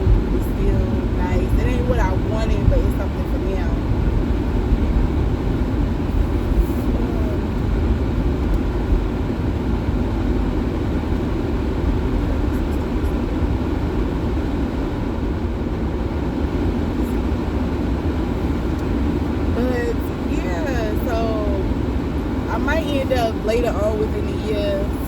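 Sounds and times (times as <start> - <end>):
car cabin road and engine rumble: 0.0 - 25.0.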